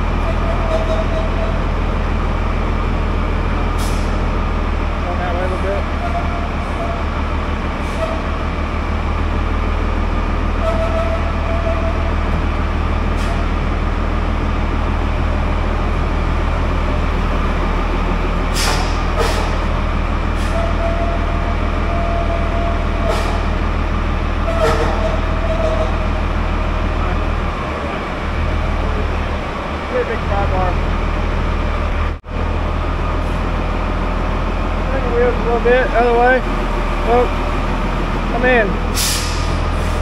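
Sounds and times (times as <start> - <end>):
diesel engine idling: 0.0 - 40.0.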